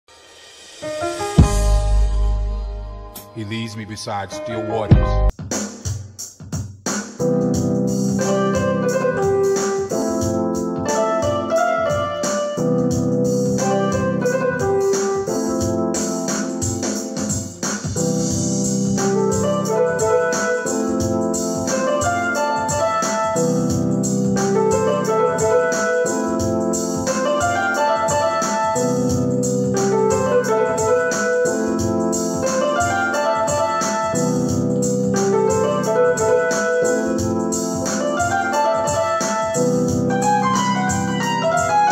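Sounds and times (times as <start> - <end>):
electronic keyboard playing chords: 0.8 - 5.4, 7.2 - 41.9.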